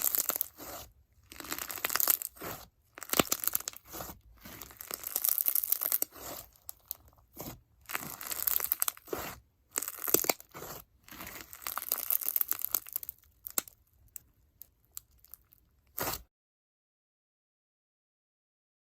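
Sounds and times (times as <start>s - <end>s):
slime crackling and squishing: 0.0s - 16.3s.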